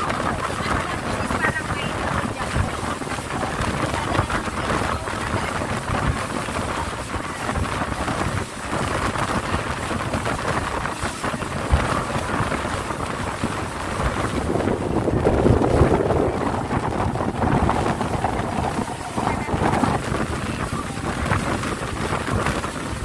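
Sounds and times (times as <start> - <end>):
boat engine: 0.0 - 23.0
water rushing along hull: 0.0 - 23.0
wind buffeting microphone: 0.0 - 23.0.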